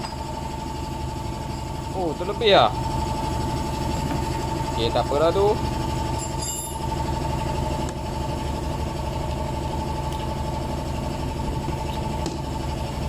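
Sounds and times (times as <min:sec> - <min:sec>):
motor humming and whining: 0:00.0 - 0:13.0.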